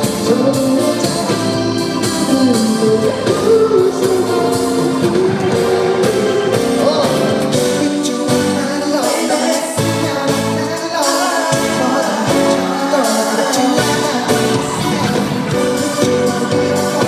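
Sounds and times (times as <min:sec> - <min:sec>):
loud backing music: 0:00.0 - 0:17.0
man singing: 0:00.0 - 0:17.0.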